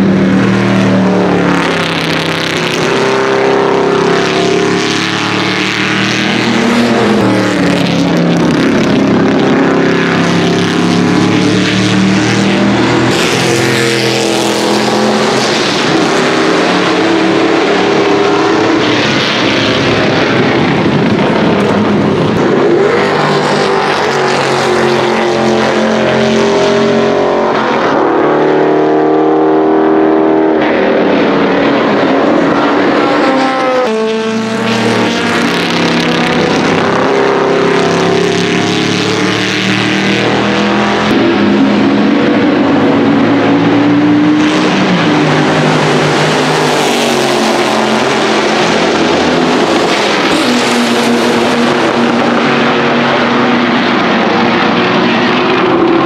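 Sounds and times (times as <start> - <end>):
race car engine passing: 0.0 - 56.0.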